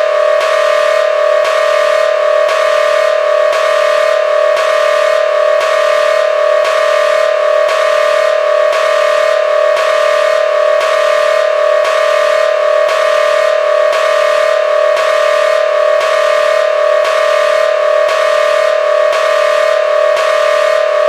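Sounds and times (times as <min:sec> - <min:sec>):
two-tone emergency alarm: 0:00.0 - 0:21.0.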